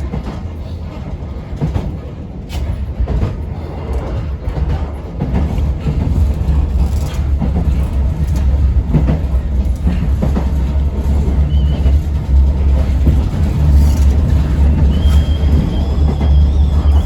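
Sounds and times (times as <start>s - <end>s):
train rumbling: 0.0s - 17.0s
wheels knocking on rail joints: 0.0s - 17.0s.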